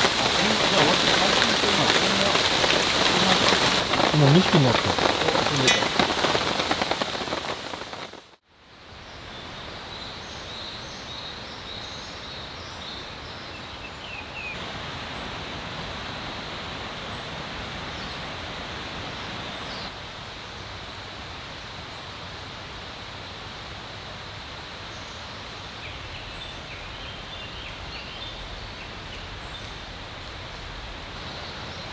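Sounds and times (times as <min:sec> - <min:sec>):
rain falling hard: 0:00.0 - 0:08.4, 0:14.5 - 0:31.9
wet outdoor ambience hiss: 0:00.0 - 0:31.9.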